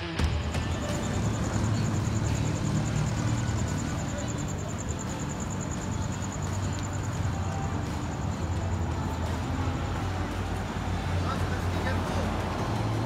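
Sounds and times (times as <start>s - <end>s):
car engine idling: 0.6s - 12.7s.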